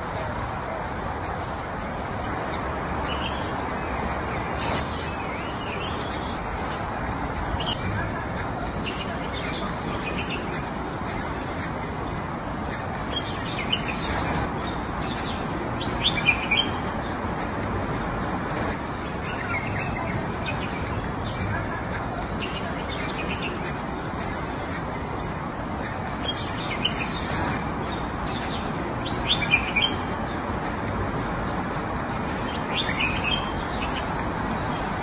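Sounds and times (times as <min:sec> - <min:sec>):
small birds chirping: 0:00.0 - 0:35.0
steady background hiss: 0:00.0 - 0:35.0.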